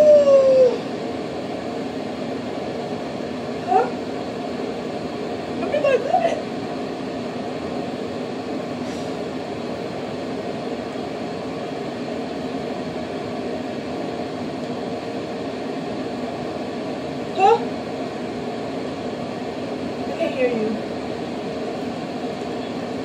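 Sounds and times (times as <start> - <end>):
ventilation fan humming: 0.0 - 23.0.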